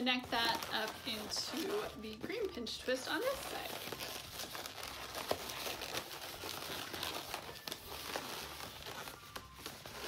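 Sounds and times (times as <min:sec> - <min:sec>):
balloon squeak: 0:00.0 - 0:10.0
balloons rubbing and crinkling: 0:00.0 - 0:10.0.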